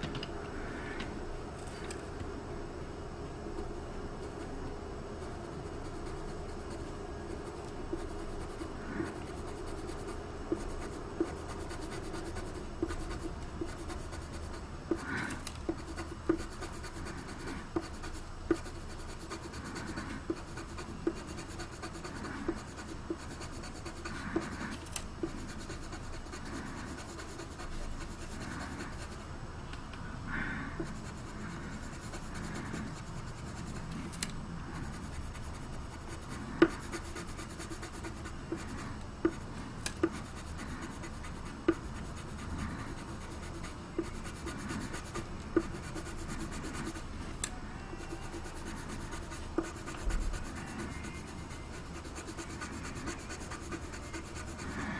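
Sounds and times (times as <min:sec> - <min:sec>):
pencil scratching on paper: 0:05.2 - 0:29.2, 0:30.8 - 0:34.0, 0:34.6 - 0:47.1, 0:48.0 - 0:54.9.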